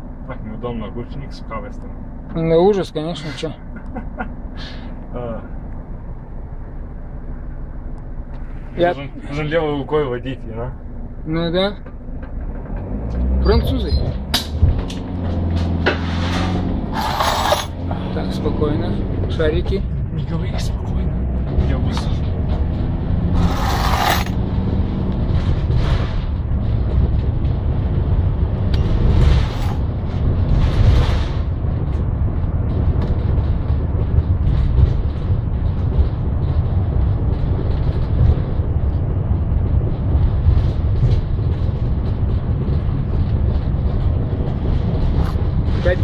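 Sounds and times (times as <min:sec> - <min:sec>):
van engine and tyre rumble: 0:00.0 - 0:46.0.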